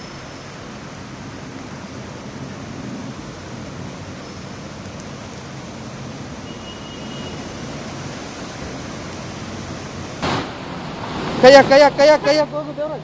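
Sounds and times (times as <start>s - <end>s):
rushing floodwater: 0.0s - 13.0s.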